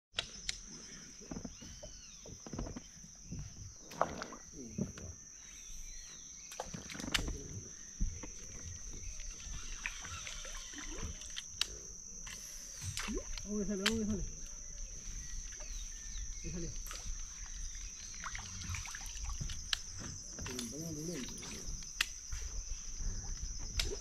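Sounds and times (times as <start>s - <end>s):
water sloshing against boat: 0.3s - 24.0s.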